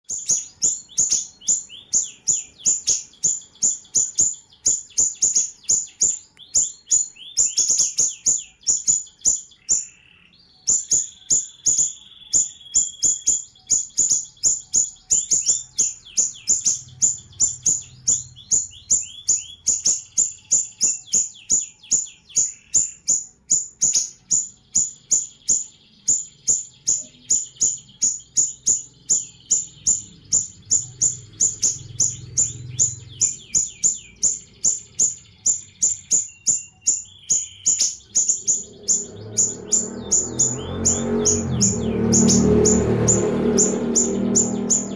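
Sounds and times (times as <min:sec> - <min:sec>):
bird chirping high notes: 0:00.0 - 0:44.9
lower down-slurred bird notes: 0:00.0 - 0:44.9.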